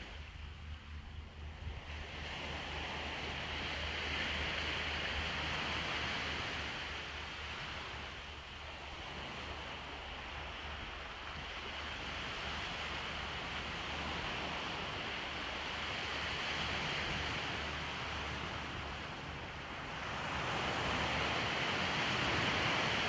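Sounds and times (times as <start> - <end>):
sea surf washing onto shore: 1.9 - 23.0.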